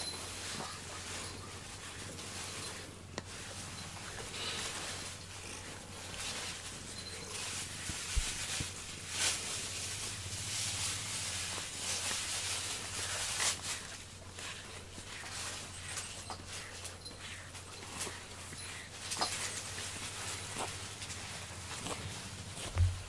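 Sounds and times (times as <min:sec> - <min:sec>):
brush swishing through fur: 0:00.0 - 0:23.0.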